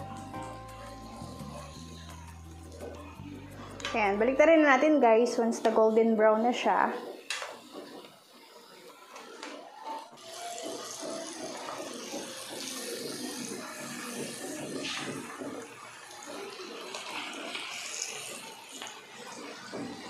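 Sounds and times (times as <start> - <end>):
hot oil sizzling and popping: 0.0 - 20.0.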